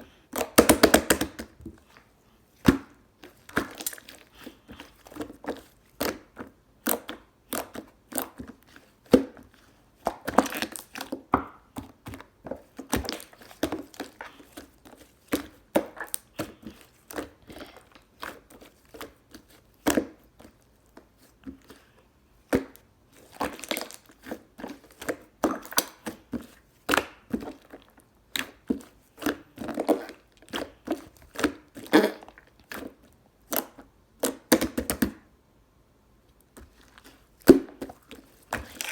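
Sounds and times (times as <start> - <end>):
slime being kneaded by hand: 0.0 - 35.3, 36.4 - 38.9.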